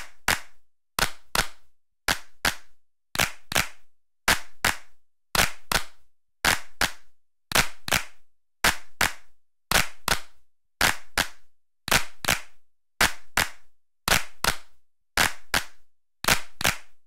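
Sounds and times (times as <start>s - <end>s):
sharp clap-like hits: 0.0s - 16.9s.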